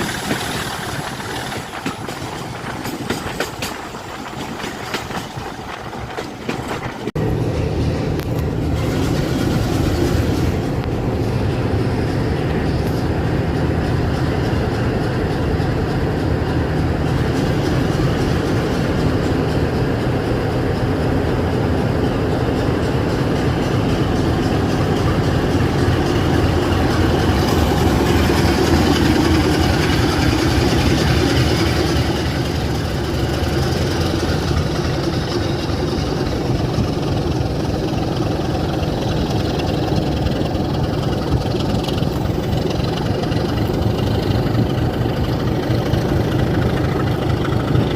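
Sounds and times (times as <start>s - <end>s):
diesel locomotive engine running: 0.0s - 47.9s.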